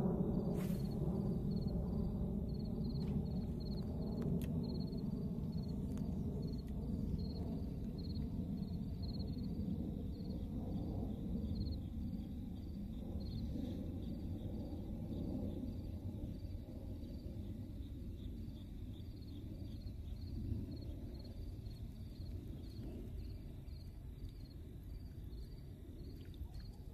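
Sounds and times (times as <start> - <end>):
cricket chirping: 0.0 - 26.9
low steady rumble: 0.0 - 26.9.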